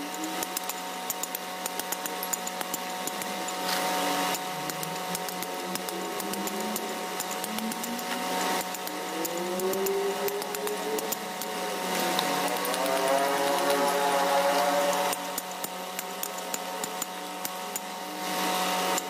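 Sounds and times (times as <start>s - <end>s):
hatchet tapping stone: 0.0s - 19.0s
machine hum: 0.0s - 19.0s.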